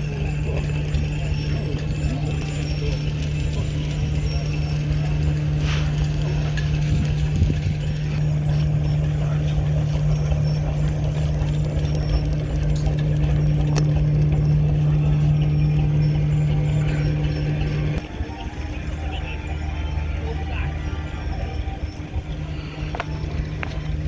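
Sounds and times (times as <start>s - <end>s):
mechanical clattering: 0.0s - 20.4s
machinery humming: 0.0s - 24.0s.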